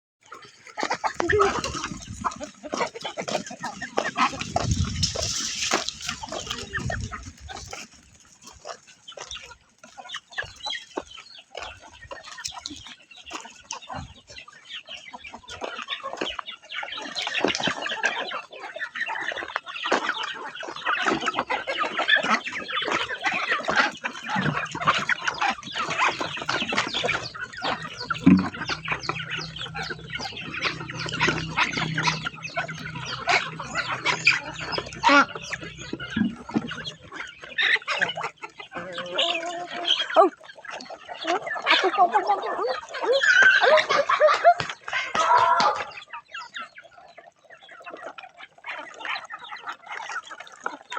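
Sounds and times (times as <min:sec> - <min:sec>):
chickens clucking: 0:00.2 - 0:50.9.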